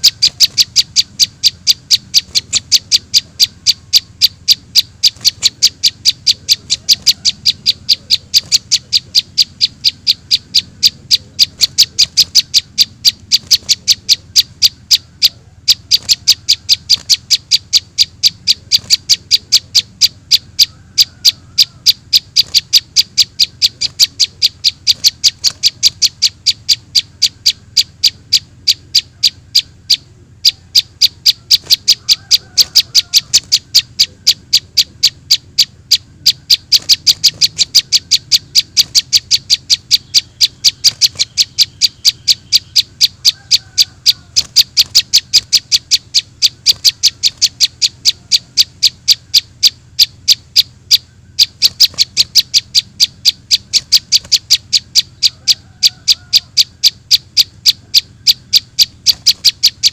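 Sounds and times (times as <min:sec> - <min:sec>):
bird chirps high and sharp: 0:00.0 - 0:59.9.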